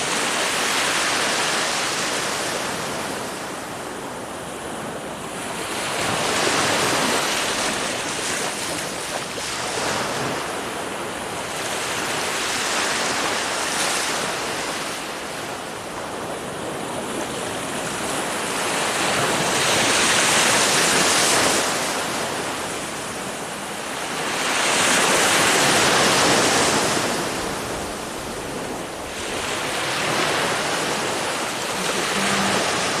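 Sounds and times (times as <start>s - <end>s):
ocean waves washing in: 0.0s - 33.0s.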